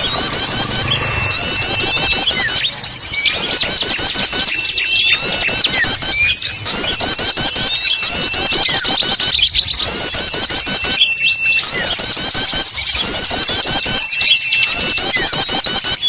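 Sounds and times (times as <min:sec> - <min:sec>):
songbirds chirping chorus: 0:00.0 - 0:16.0.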